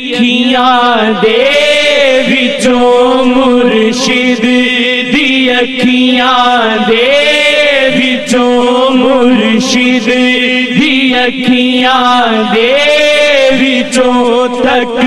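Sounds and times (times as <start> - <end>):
person chanting devotional song: 0.0 - 15.0.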